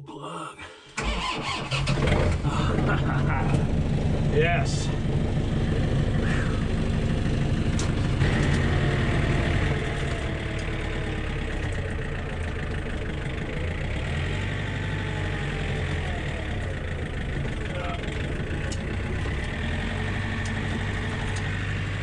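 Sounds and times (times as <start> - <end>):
diesel tractor engine idling: 1.0 - 22.0.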